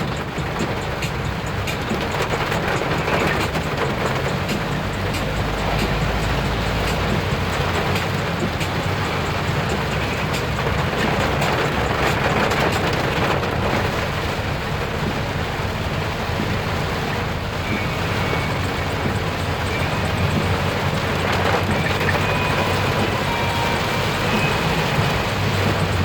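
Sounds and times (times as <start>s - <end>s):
rain and wet tyres hissing: 0.0s - 26.0s
vehicle engine and road rumble: 0.0s - 26.0s.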